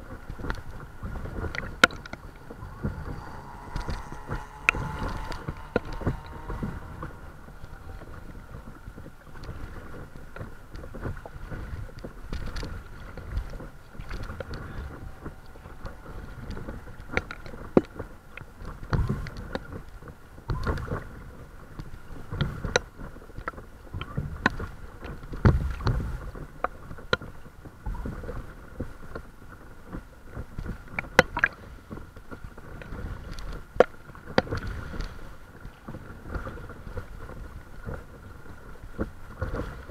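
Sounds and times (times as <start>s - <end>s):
paddle splashes and knocks: 0.0s - 39.9s
water sloshing against hull: 0.0s - 39.9s.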